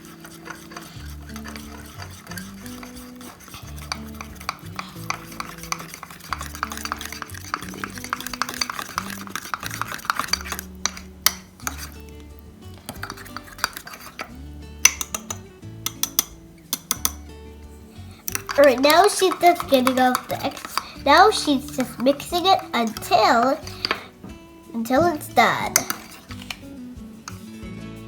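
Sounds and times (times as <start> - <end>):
fork scraping in mug: 0.0 - 12.2, 12.8 - 17.2, 17.9 - 24.2, 24.8 - 27.5
soft background music: 0.0 - 28.0
fork clinking on mug rim: 0.4 - 12.0, 12.9 - 17.2, 18.2 - 24.1, 25.0 - 26.7, 27.3 - 27.5.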